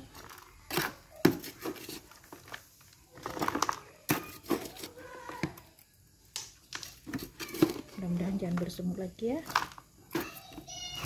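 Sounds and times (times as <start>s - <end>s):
hands working potting mix: 0.0s - 11.0s.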